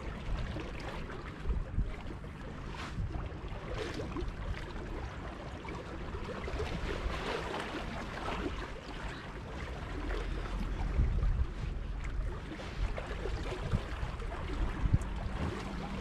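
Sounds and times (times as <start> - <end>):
wind buffeting microphone: 0.0 - 5.0, 5.8 - 16.0
water: 0.0 - 16.0.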